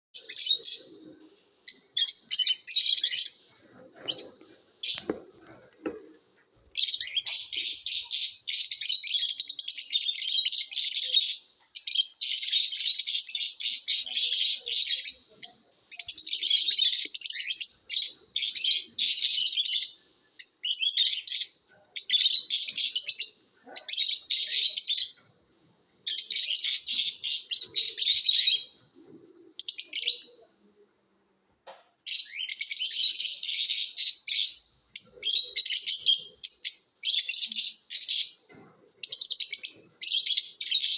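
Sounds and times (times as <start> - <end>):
lovebirds chirping and chattering: 0.2 - 31.2, 31.9 - 40.9.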